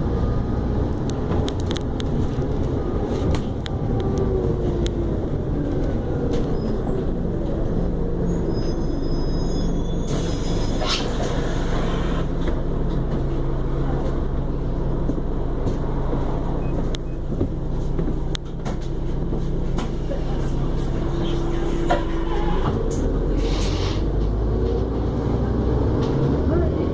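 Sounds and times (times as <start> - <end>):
bus engine running: 0.0 - 26.9.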